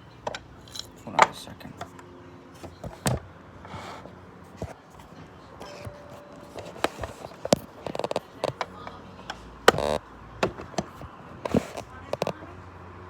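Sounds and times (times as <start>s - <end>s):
clicks and knocks of handling: 0.2s - 3.8s, 4.5s - 12.5s.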